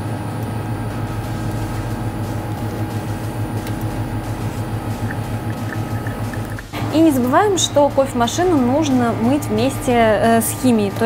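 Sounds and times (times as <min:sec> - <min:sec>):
espresso machine humming: 0:00.0 - 0:11.0.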